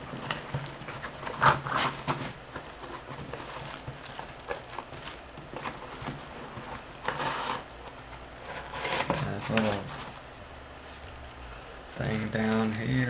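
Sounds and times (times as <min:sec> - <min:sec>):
plastic and cardboard packaging handling: 0:00.0 - 0:10.2, 0:12.0 - 0:13.0.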